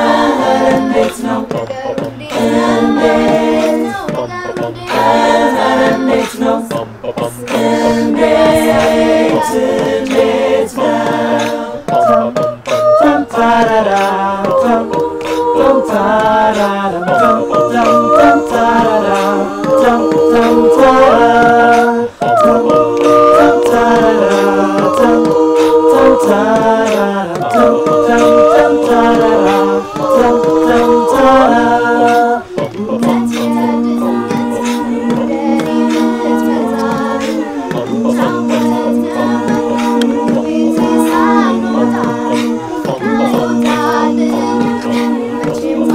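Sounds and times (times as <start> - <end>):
choir singing a cappella: 0.0 - 45.9.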